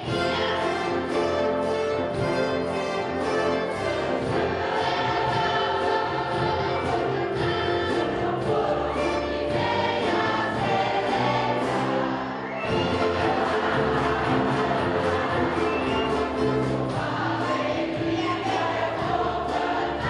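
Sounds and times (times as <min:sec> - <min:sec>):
concert band brass and woodwinds: 0:00.0 - 0:07.5, 0:08.6 - 0:17.8
choir singing: 0:00.0 - 0:20.0.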